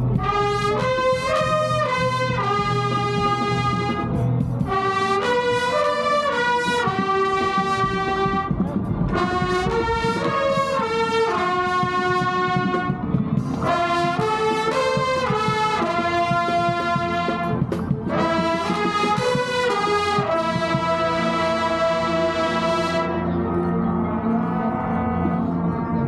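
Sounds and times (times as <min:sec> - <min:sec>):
brass band playing slow chords: 0:00.0 - 0:26.0.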